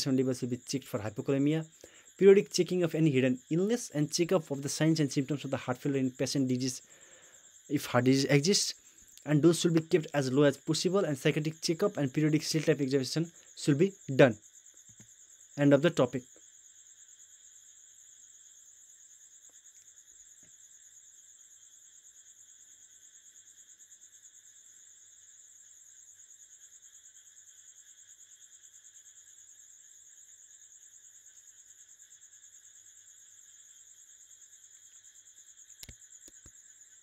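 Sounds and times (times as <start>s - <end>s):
cricket chirping: 0.0s - 37.0s.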